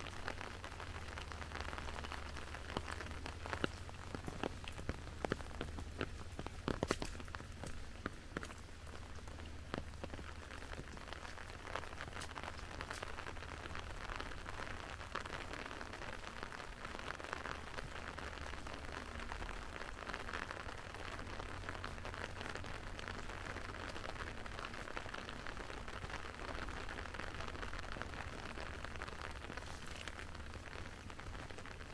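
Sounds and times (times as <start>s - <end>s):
rain drops ticking: 0.0s - 31.9s
steady rain hiss: 0.0s - 31.9s.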